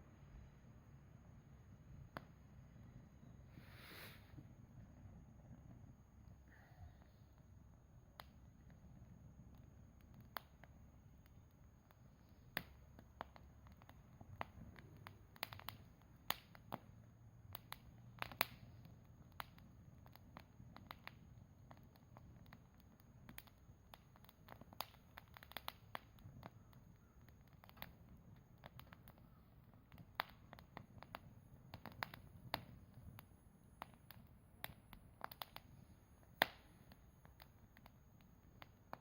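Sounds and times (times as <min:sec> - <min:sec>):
wood fire crackling and popping: 0:01.7 - 0:39.0.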